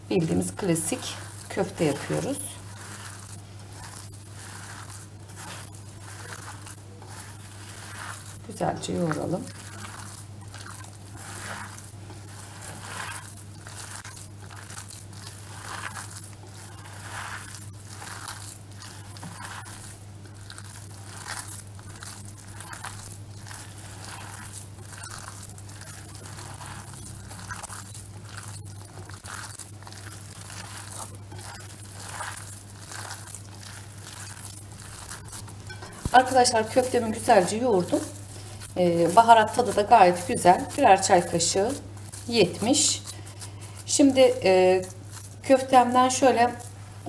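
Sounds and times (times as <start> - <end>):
hands squishing meat mixture: 0.0 - 47.0
steady low hum: 0.0 - 47.0.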